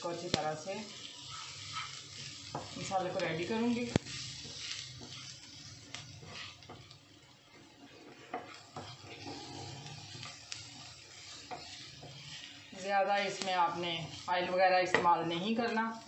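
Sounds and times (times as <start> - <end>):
onions sizzling in a frying pan: 0.0 - 16.0
spatula scraping and tapping pan: 1.2 - 15.8.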